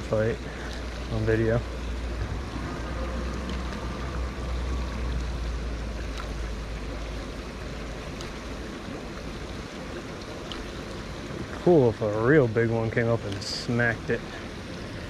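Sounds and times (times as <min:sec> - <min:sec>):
water rushing over spillway: 0:00.0 - 0:15.0.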